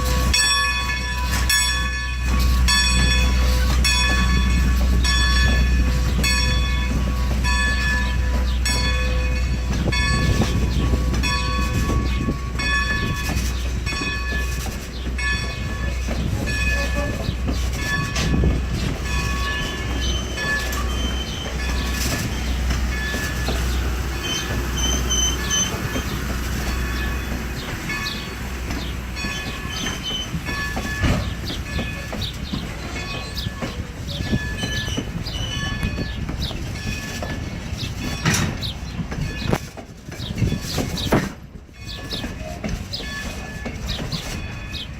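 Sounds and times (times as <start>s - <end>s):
locomotive bell ringing: 0.0s - 39.7s, 41.7s - 44.9s
train wheels rumbling and clicking: 0.0s - 44.9s.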